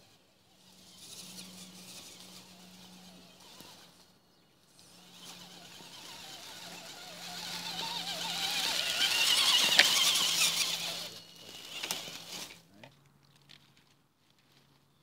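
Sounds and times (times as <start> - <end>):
toy truck motor whining: 0.0 - 12.6.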